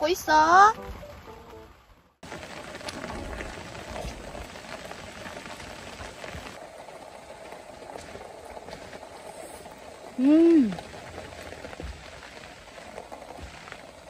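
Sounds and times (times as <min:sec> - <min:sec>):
rain pattering on shelter: 0:00.0 - 0:14.0
pot bubbling: 0:02.2 - 0:14.0.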